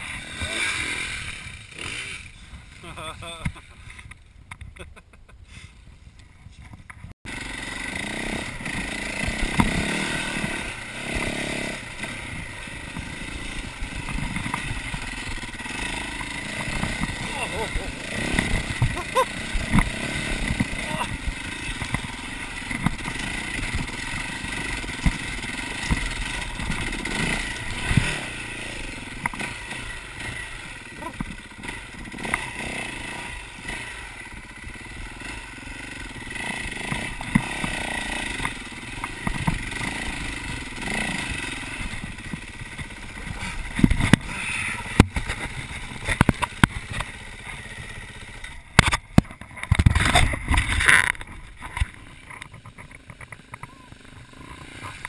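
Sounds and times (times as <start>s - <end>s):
motorcycle engine revving: 0.0s - 4.0s, 7.3s - 55.0s
bike knocking and rattling: 6.4s - 55.0s.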